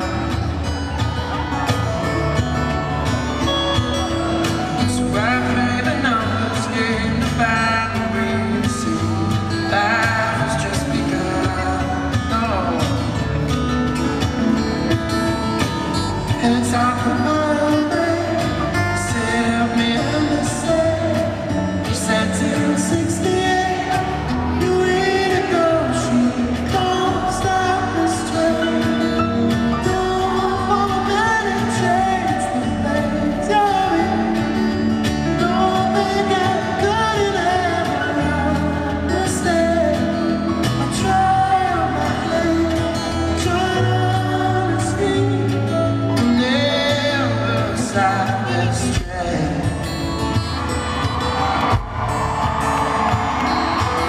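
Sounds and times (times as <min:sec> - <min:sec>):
acoustic guitar fingerpicking: 0:00.0 - 0:54.0
man singing: 0:02.3 - 0:51.9.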